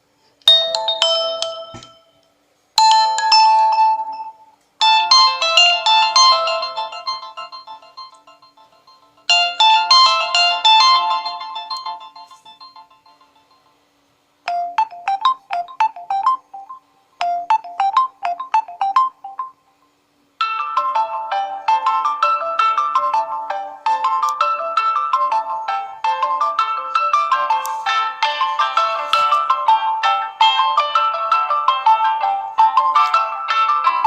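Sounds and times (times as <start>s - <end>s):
phone ringtone melodies: 0.5s - 2.2s, 2.8s - 13.8s, 14.5s - 19.6s, 20.4s - 34.0s.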